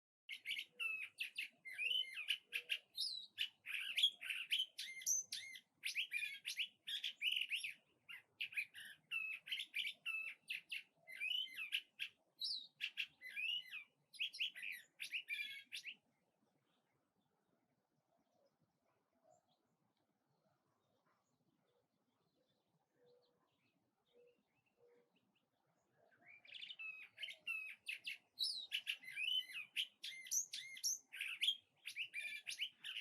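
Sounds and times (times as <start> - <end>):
songbirds singing: 0.3 - 33.0.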